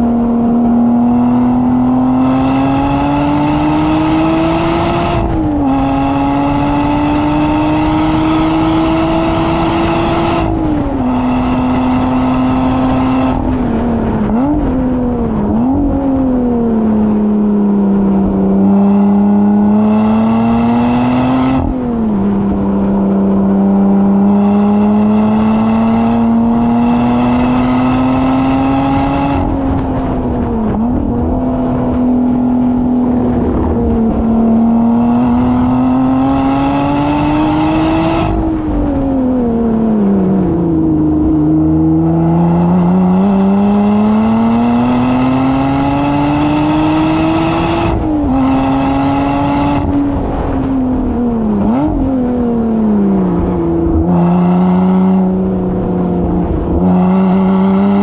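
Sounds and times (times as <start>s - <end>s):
car engine revving at speed: 0.0s - 58.0s.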